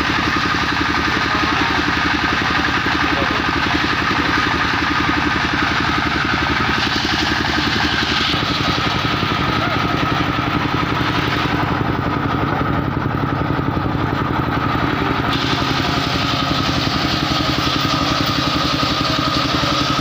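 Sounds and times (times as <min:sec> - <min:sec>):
high whine: 0:00.0 - 0:19.6
sawmill engine running: 0:00.0 - 0:20.0.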